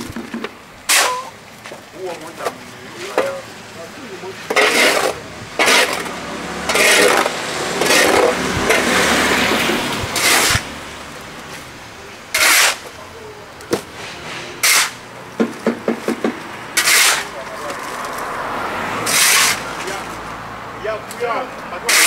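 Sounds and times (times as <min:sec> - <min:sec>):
metal shovel scraping pavement: 0:00.0 - 0:18.3, 0:19.0 - 0:20.2, 0:21.2 - 0:22.0.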